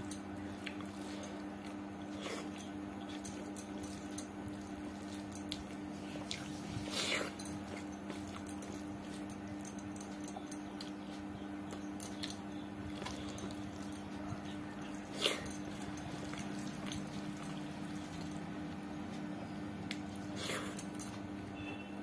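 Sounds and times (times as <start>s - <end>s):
chewing: 0.0s - 19.2s.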